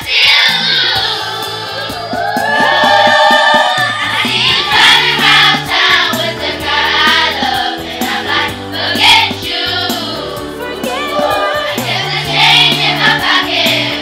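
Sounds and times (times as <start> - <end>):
group of voices singing: 0.0 - 14.0
steady bass line: 0.5 - 14.0.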